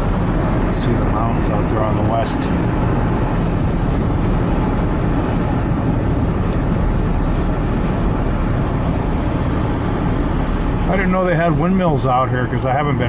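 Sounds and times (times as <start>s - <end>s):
car cabin road and engine noise: 0.0s - 13.0s.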